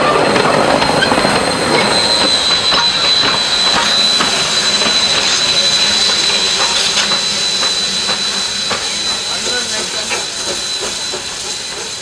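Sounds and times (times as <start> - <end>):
high-pitched squeal: 0.0 - 12.0
steam locomotive rolling past: 0.0 - 12.0.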